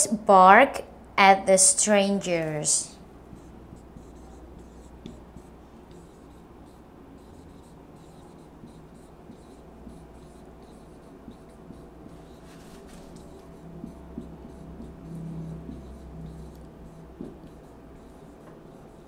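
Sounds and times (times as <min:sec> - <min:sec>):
marker scratching on whiteboard: 0:01.6 - 0:19.0.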